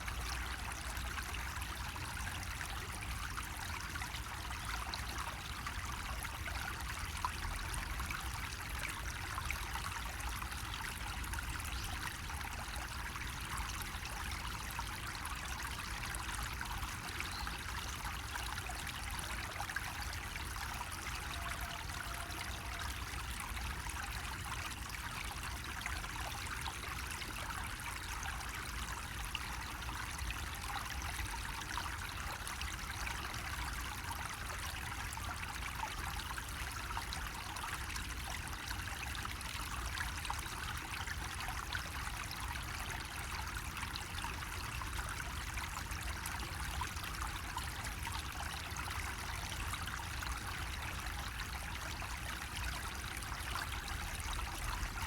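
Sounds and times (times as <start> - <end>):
water trickling from a spout: 0.0 - 55.0.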